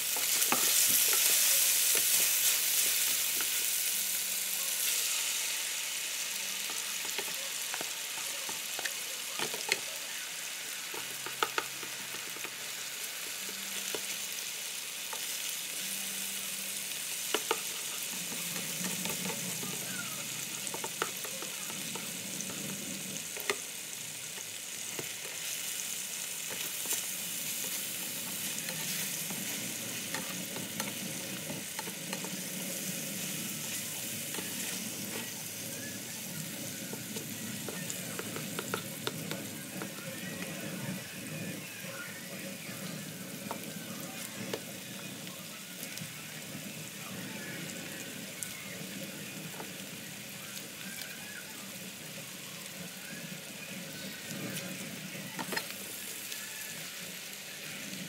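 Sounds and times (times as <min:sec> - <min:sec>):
food sizzling in a skillet: 0:00.0 - 0:58.0.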